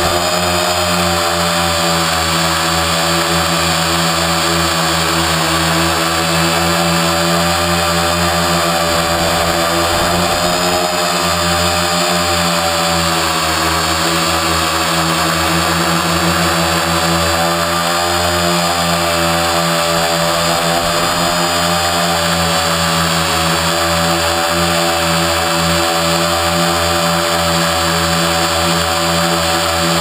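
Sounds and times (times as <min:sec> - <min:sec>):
drone propellers buzzing whine: 0:00.0 - 0:30.0.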